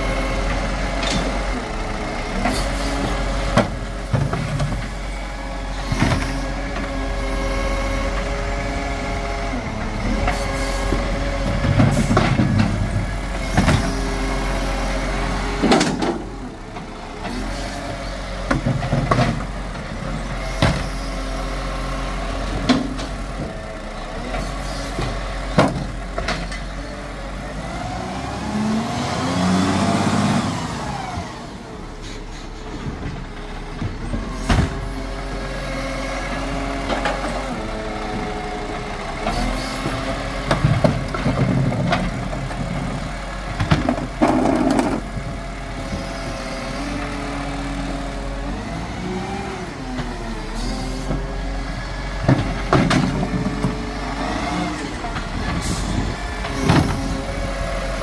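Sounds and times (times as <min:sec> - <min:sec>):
garbage truck engine revving: 0:00.0 - 0:58.0.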